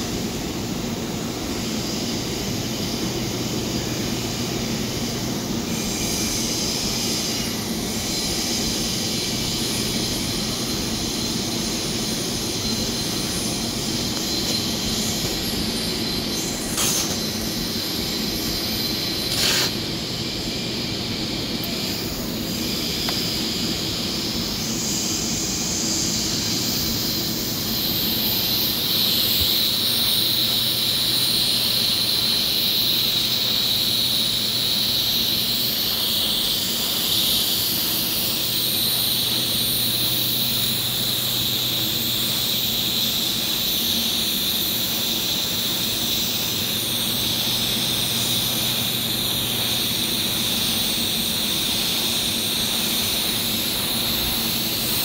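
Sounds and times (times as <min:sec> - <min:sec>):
steady low hum: 0:00.0 - 0:55.0
welding arc hissing: 0:00.0 - 0:55.0.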